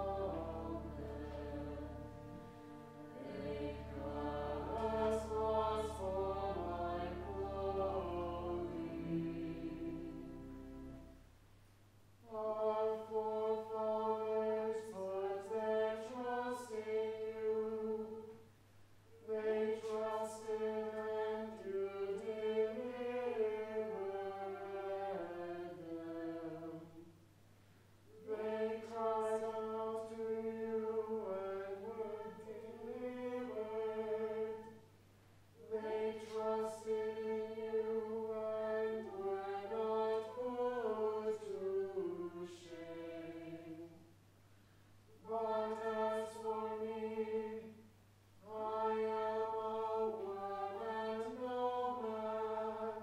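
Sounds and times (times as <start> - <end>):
choir chanting in unison: 0.0 - 11.1, 12.2 - 18.4, 19.2 - 27.1, 28.1 - 34.8, 35.6 - 44.0, 45.2 - 47.8, 48.4 - 53.0
low steady hum: 0.0 - 53.0.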